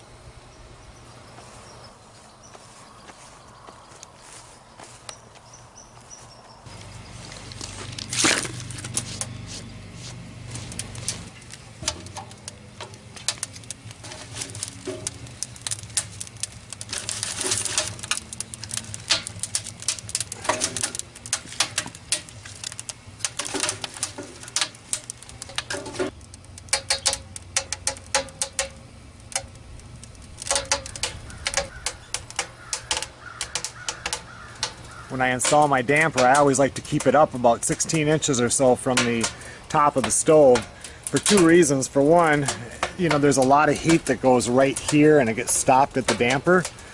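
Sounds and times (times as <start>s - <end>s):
fire crackling in wood stove: 0.0s - 46.9s
low steady hum: 0.0s - 46.9s.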